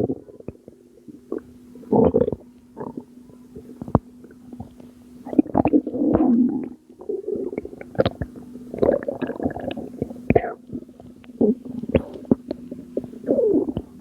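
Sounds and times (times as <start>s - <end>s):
faint steady hum: 0.0s - 14.0s
stomach gurgling: 0.0s - 14.0s.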